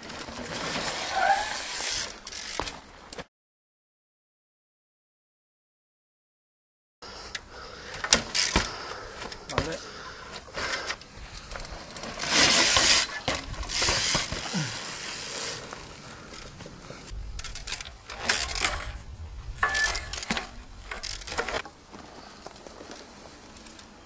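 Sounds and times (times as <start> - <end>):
bicycle metallic clinks and rattles: 0.0 - 3.2, 7.3 - 24.0.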